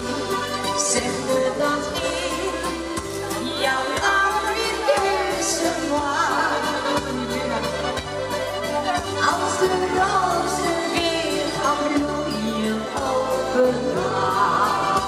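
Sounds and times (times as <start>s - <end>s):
woman singing into microphone: 0.0s - 8.1s, 8.8s - 15.0s
backing music with bass line: 0.0s - 15.0s.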